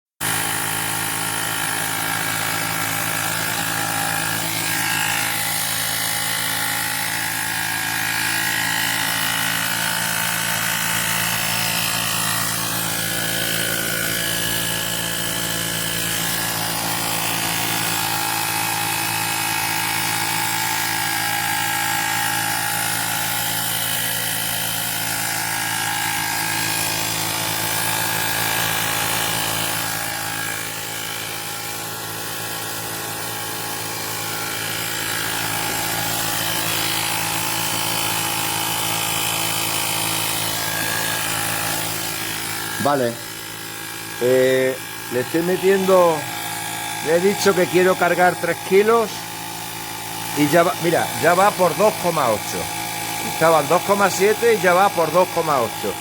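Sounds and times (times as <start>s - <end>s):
electric tyre inflator running: 0.2s - 56.0s.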